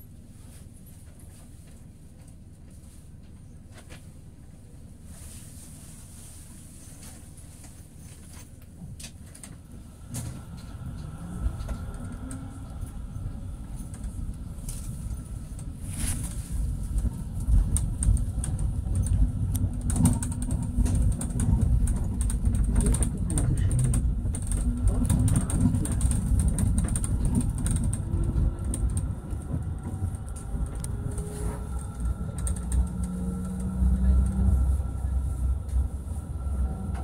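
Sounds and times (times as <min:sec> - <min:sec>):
tram rumbling on track: 0:00.0 - 0:37.0.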